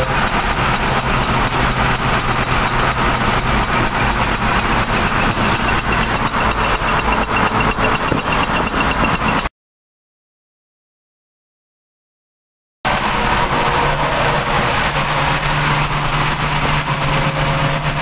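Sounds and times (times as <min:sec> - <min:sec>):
electronic dance music: 0:00.0 - 0:09.4, 0:12.9 - 0:18.0.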